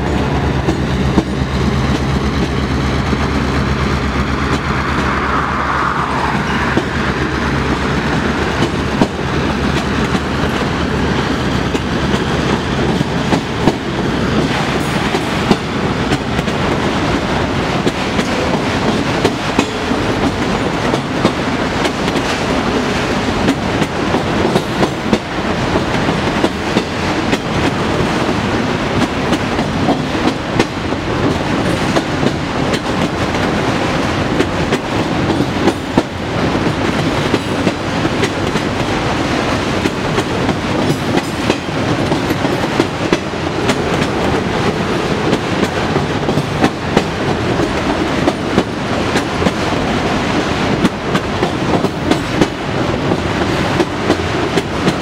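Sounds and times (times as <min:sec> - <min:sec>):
train wheels clacking over rail joints: 0:00.0 - 0:03.6, 0:06.6 - 0:55.0
diesel locomotive hum: 0:00.0 - 0:55.0
rail cars rattling: 0:00.0 - 0:55.0.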